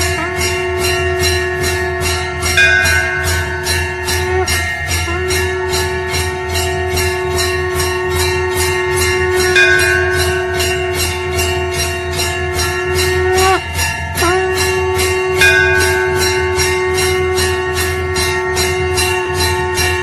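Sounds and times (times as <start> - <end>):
bells ringing rapidly: 0.0 - 20.0
conch shell blown: 0.0 - 20.0.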